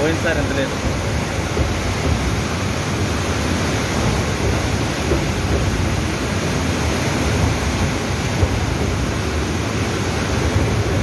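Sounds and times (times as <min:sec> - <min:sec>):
floodwater rushing around bridge piers: 0:00.0 - 0:11.0
wind buffeting microphone: 0:00.0 - 0:11.0.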